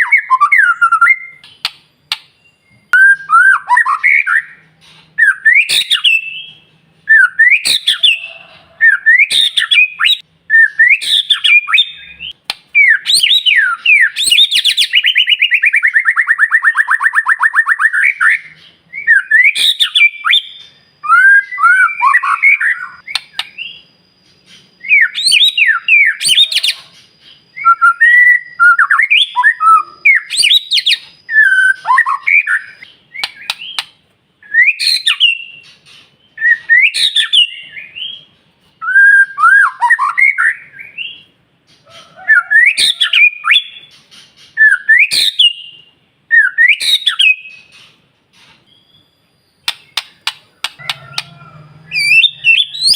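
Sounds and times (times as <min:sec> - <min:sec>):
bird singing whistles and chatter: 0:02.3 - 0:41.3, 0:42.3 - 0:47.9, 0:48.7 - 0:52.9.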